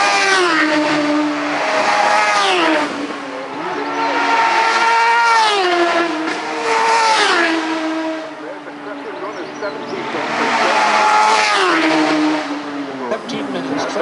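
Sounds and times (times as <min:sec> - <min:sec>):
superbikes passing at racing speed: 0:00.0 - 0:14.0.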